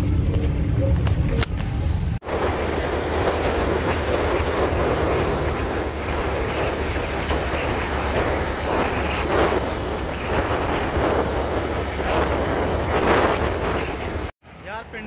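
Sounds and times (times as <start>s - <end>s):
motorcycle engine and road rumble: 0.0s - 15.0s
wind rushing over microphone: 0.2s - 14.4s.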